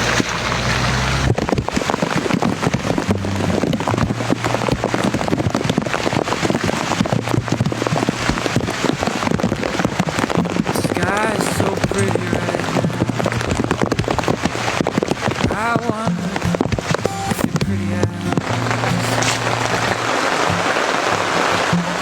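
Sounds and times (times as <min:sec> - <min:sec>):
heavy rain pattering: 0:00.0 - 0:22.0.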